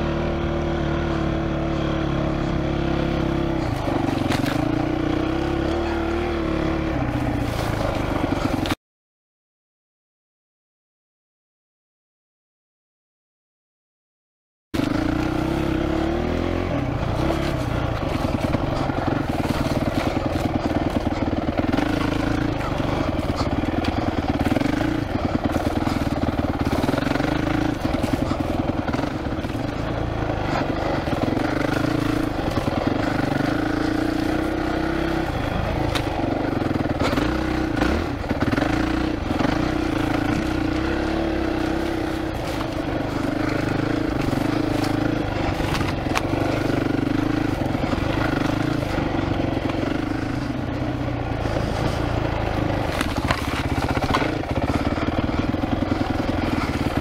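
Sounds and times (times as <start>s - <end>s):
motorcycle engine revving: 0.0s - 8.8s, 14.8s - 57.0s.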